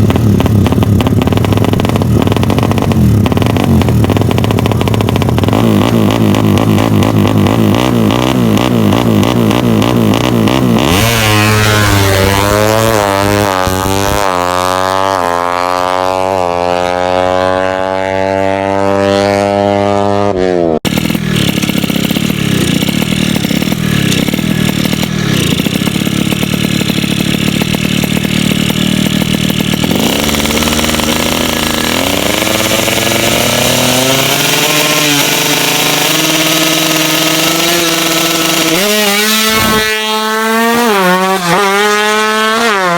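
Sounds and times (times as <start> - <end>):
motorcycle engine revving hard: 0.0 - 42.9.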